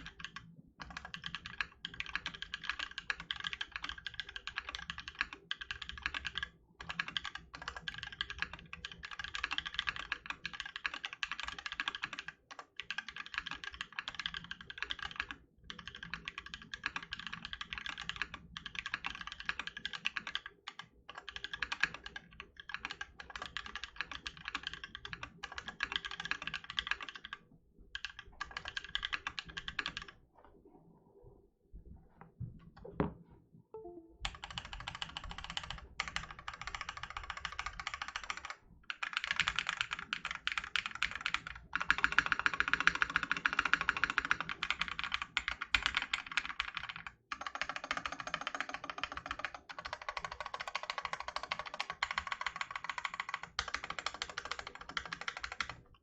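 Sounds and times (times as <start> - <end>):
fast mechanical keyboard typing: 0.0 - 30.2, 34.2 - 56.0.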